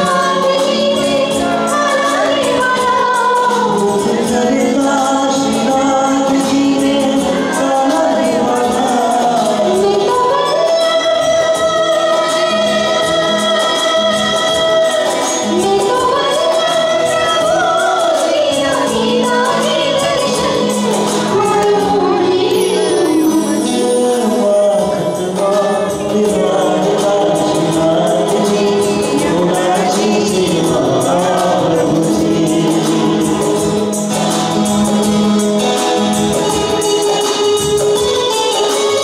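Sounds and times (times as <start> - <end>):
woman singing: 0.0 - 33.8.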